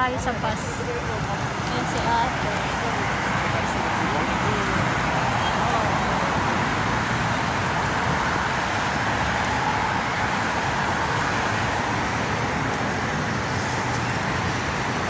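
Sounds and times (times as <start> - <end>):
busy road traffic roar: 0.0 - 15.0.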